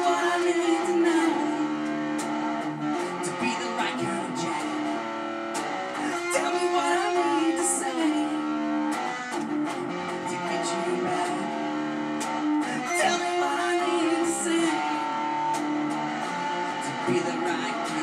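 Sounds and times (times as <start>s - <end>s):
guitar strumming and picking: 0.0s - 18.0s.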